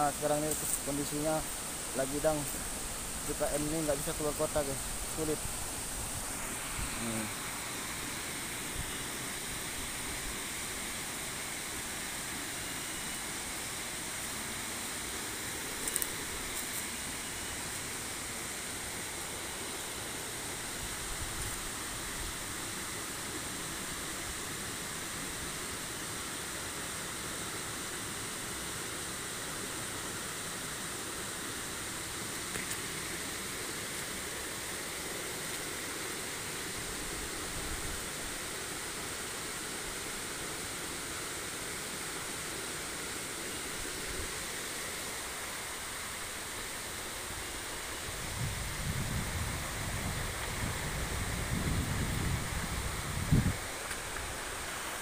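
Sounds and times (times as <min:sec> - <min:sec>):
stream water rushing over boulders: 0:00.0 - 0:55.0.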